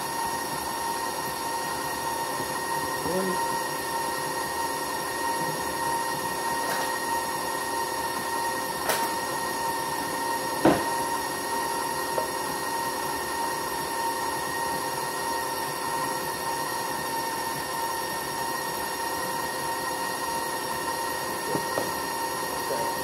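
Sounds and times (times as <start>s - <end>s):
stand mixer motor whine: 0.0s - 23.0s.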